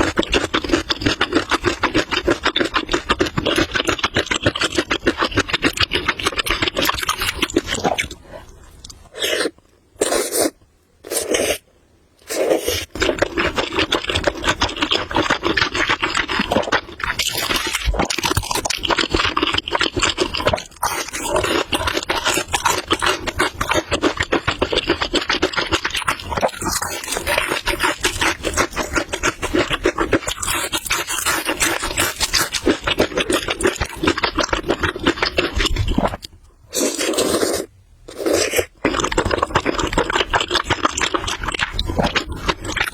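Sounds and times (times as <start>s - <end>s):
wet chewing noodles: 0.0s - 11.6s, 12.2s - 42.9s.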